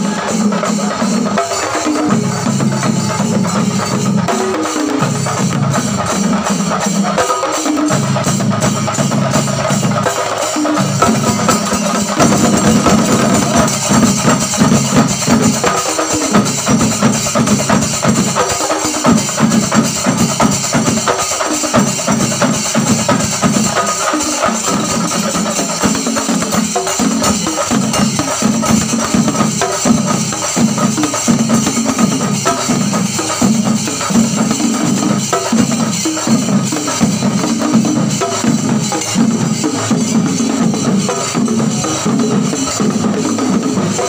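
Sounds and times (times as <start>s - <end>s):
ensemble of drums beaten with sticks: 0.0s - 44.0s.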